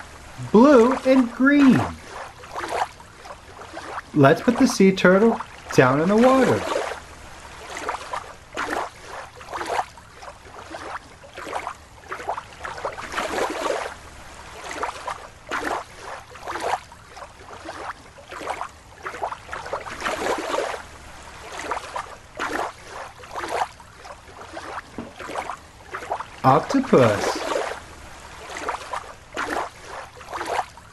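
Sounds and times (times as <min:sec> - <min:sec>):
water sloshing and splashing: 0:00.0 - 0:30.9.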